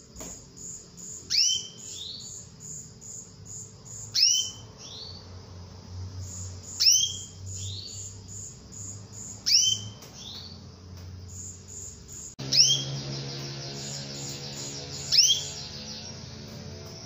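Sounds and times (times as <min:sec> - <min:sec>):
canary chirping: 0:00.6 - 0:17.0.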